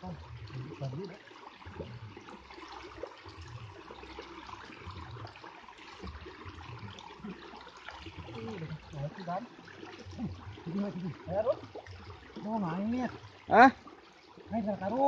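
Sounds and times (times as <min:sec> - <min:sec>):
stream water trickling: 0:00.0 - 0:15.0.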